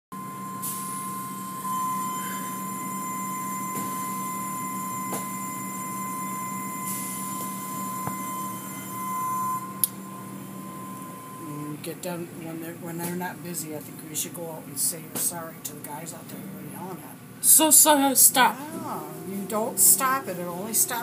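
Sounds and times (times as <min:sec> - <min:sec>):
car wash machinery whine: 0:00.1 - 0:14.3, 0:16.6 - 0:21.0.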